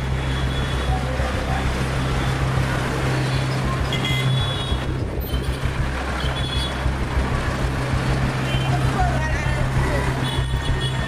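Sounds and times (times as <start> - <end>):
bus engine running: 0.0 - 11.0
road noise: 0.0 - 11.0.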